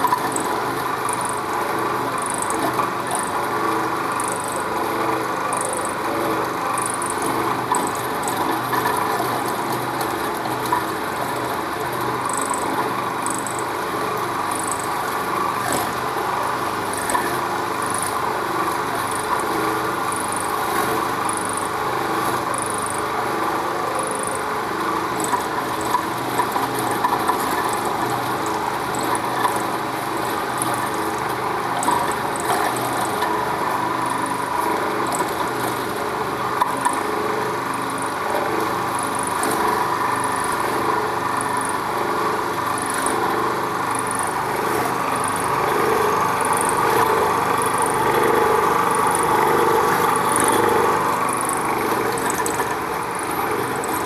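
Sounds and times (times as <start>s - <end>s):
grinder motor humming: 0.0s - 54.0s.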